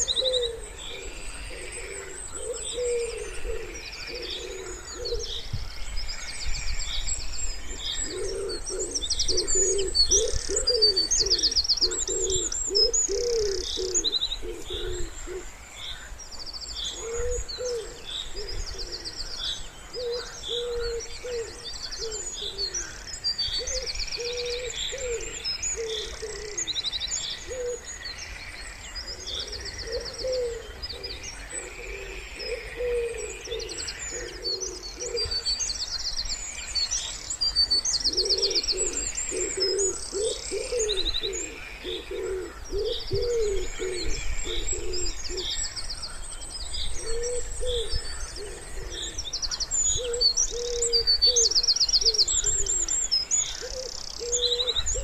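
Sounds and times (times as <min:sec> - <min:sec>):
pigeons cooing: 0:00.0 - 0:05.5, 0:07.7 - 0:15.5, 0:16.9 - 0:23.0, 0:23.6 - 0:26.8, 0:27.4 - 0:27.9, 0:29.1 - 0:35.6, 0:37.7 - 0:45.6, 0:46.9 - 0:55.0
songbirds chirping and trilling: 0:00.0 - 0:55.0.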